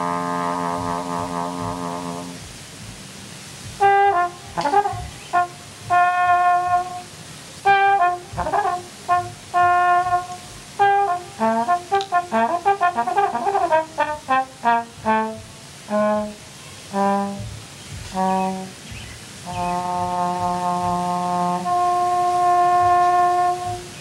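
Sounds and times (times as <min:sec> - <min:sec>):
slide trombone melody: 0:00.0 - 0:24.0.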